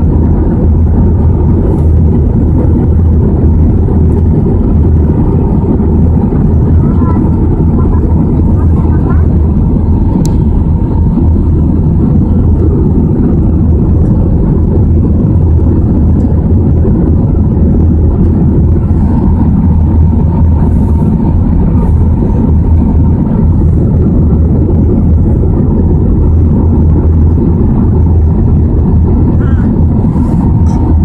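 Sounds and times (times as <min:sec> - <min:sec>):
aircraft cabin engine rumble: 0:00.0 - 0:31.0
faint steady hum: 0:00.0 - 0:31.0.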